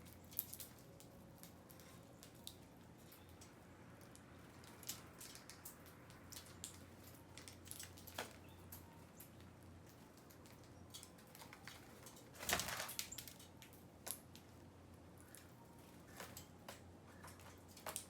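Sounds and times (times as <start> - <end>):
small clicks and ticks: 0.0 - 14.6.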